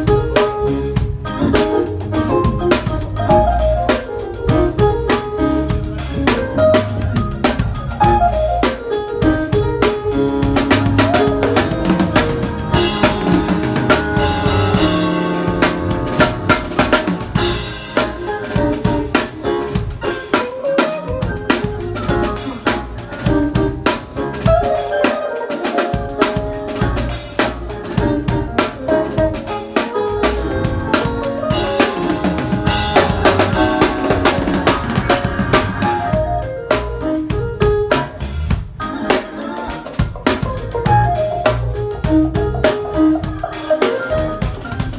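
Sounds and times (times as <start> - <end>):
drum kit: 0.0 - 44.9
live band jamming: 0.0 - 44.9.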